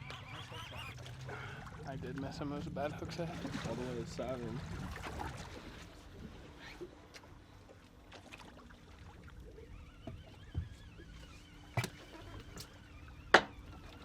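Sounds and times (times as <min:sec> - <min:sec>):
boat low hum: 0:00.0 - 0:14.0.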